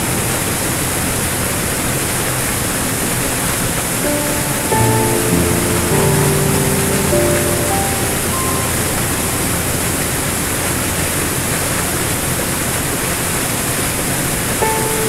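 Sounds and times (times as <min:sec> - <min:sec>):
soft held piano notes: 0:00.0 - 0:15.0
waterfall rushing and splashing: 0:00.0 - 0:15.0.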